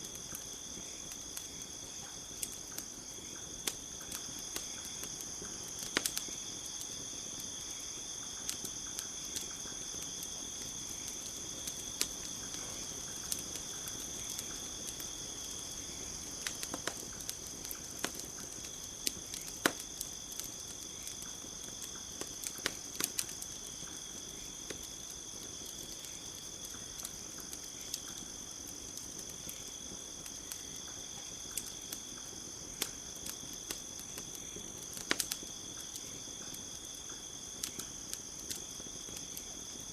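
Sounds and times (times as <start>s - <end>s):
campfire crackling and popping: 0.0s - 39.9s
night insects chirring: 0.0s - 39.9s.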